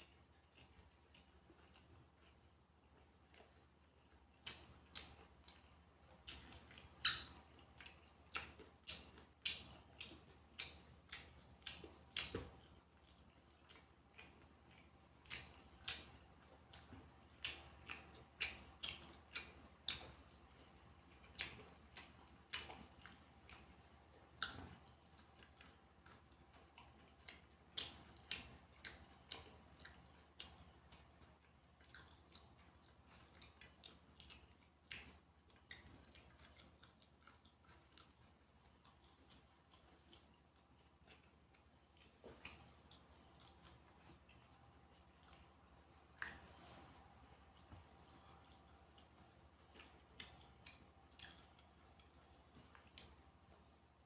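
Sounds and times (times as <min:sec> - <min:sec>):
chewing with crunches: 0:00.0 - 0:54.0.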